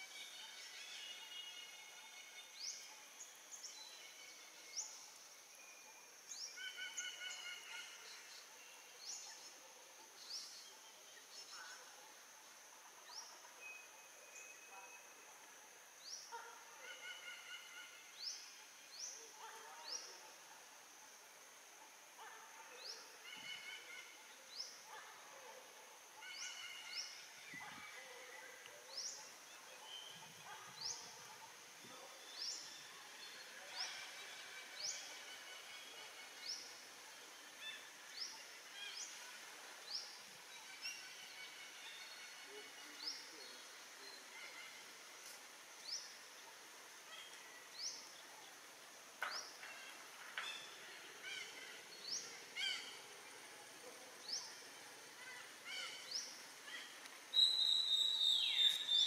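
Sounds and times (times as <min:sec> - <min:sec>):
faint bird chirping: 0:00.0 - 0:59.0.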